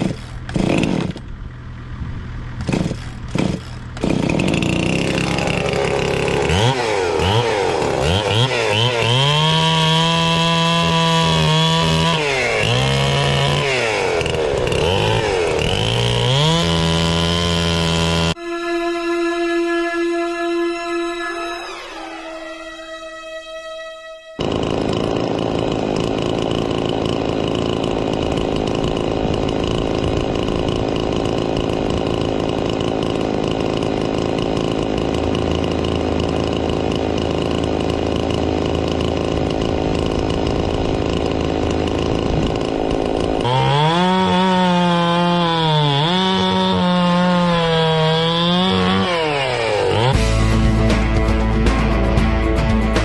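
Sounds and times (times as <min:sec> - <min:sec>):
chainsaw cutting wood: 0:00.0 - 0:01.4, 0:02.5 - 0:18.4, 0:24.4 - 0:51.4.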